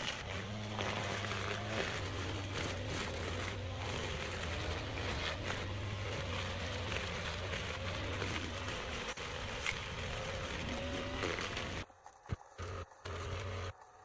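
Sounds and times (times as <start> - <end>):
brush cutter engine cutting grass: 0.0 - 14.0.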